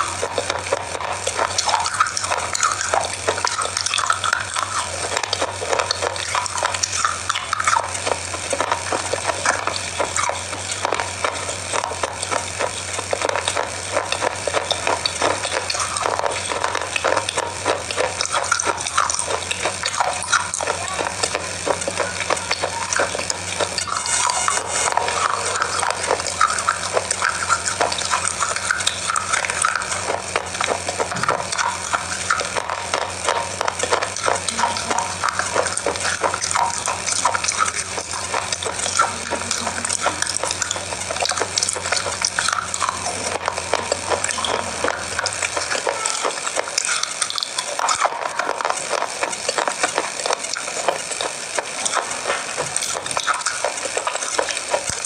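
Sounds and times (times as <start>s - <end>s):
crunching and chewing biscuits: 0.0s - 55.0s.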